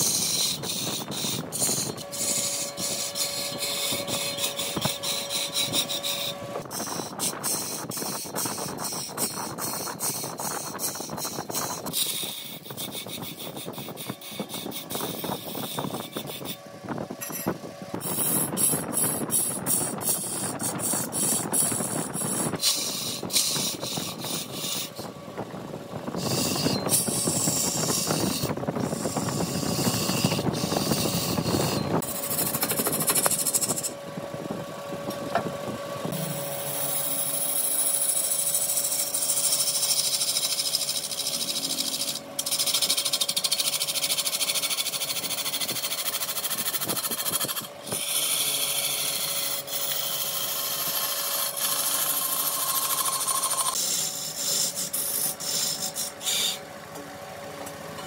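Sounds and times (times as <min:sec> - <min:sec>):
turning tool cutting wood: 0:00.0 - 0:16.6, 0:17.2 - 0:34.0, 0:35.0 - 0:56.7
wood lathe running: 0:00.0 - 0:16.6, 0:17.3 - 0:25.2, 0:26.1 - 0:34.0, 0:36.0 - 0:56.7
steady hum: 0:00.0 - 0:58.0.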